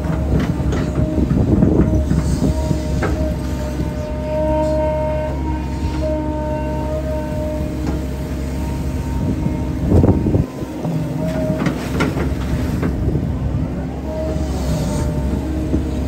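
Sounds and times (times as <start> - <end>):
excavator engine humming: 0.0 - 16.0
hydraulic whine: 0.0 - 16.0.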